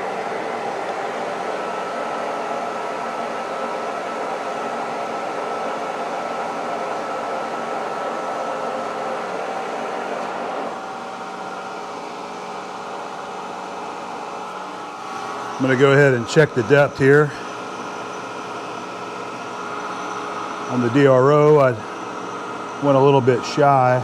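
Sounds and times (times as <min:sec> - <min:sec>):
milling machine running: 0:00.0 - 0:24.0.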